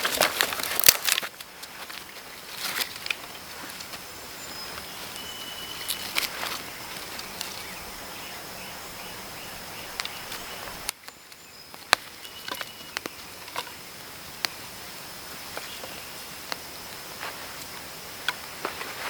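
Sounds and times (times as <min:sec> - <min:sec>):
even hiss: 0:00.0 - 0:19.0
high insect drone: 0:00.0 - 0:19.0.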